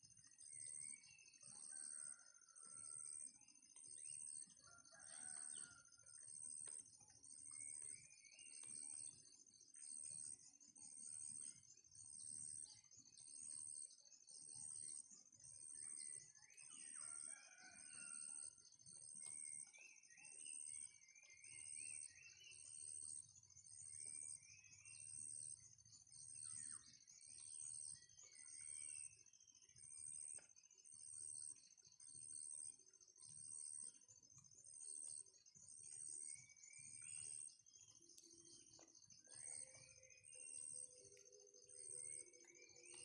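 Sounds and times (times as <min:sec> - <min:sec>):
insects chirping and buzzing: 0:03.5 - 0:18.0, 0:18.6 - 0:43.0.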